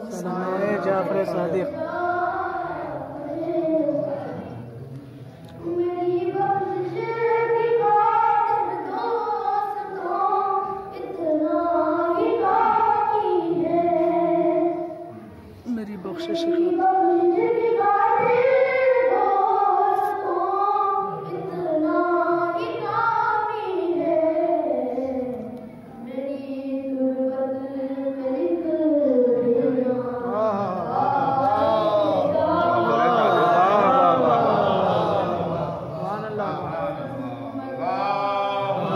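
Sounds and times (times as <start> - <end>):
boy singing unaccompanied: 0.0 - 4.6, 5.6 - 15.2, 16.0 - 35.0.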